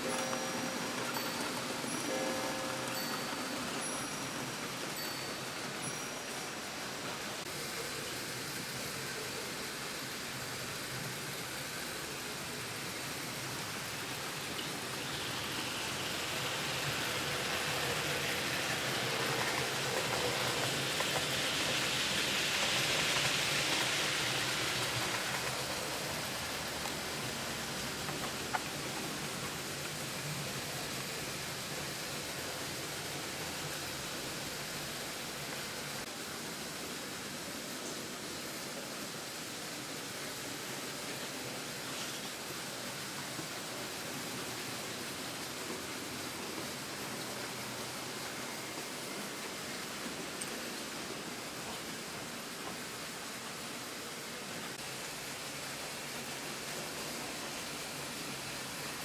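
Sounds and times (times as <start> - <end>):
model train rolling on track: 0.0 - 59.0.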